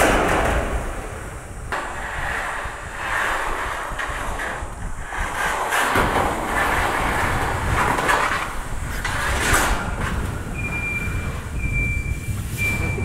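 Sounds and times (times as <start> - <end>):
metal roof sheet scraping: 0.0 - 13.0.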